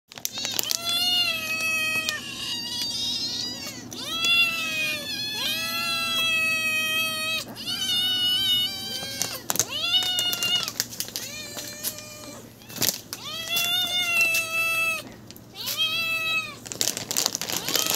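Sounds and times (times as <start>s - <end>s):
cats meowing: 0.1s - 17.9s.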